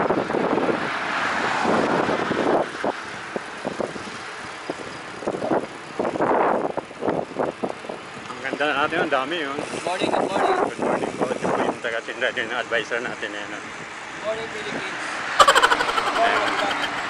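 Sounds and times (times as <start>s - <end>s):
wind and road noise: 0.0s - 12.2s, 13.0s - 15.4s.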